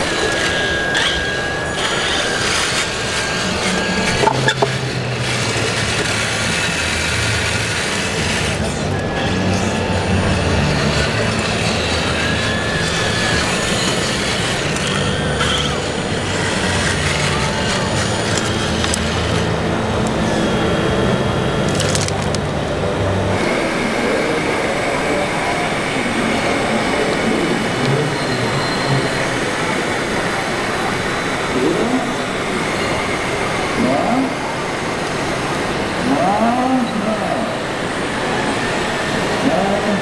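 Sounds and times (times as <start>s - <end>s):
crowd murmur: 0.0s - 40.0s
din of busy hall: 0.0s - 40.0s
model wheel loader running: 0.0s - 40.0s
rising and falling whines: 0.0s - 40.0s.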